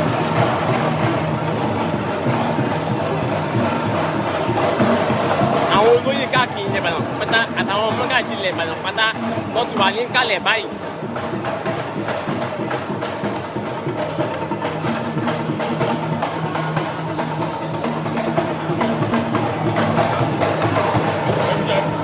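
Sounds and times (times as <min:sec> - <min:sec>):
rapid knocking percussion: 0:00.0 - 0:22.0.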